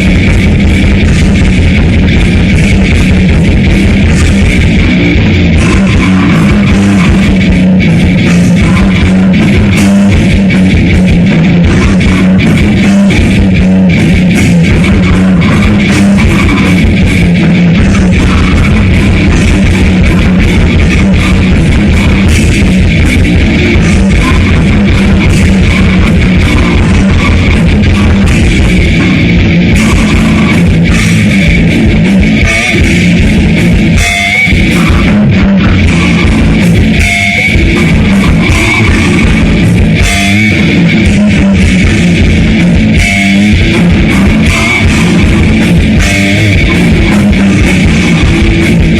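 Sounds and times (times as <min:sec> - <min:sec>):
bass guitar: 0:00.0 - 0:48.9
distorted electric guitars: 0:00.0 - 0:48.9
fast dense drumming: 0:00.0 - 0:48.9.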